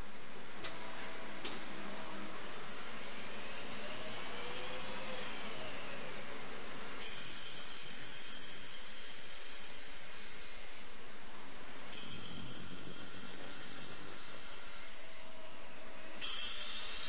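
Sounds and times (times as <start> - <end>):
high-pitched machine whine: 0.0 - 17.0
cnc machine hiss: 1.8 - 17.0.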